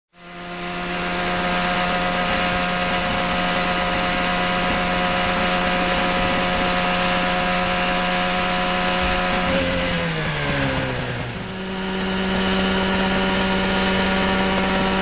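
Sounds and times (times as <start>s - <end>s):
helicopter engine and rotor running: 0.1s - 15.0s.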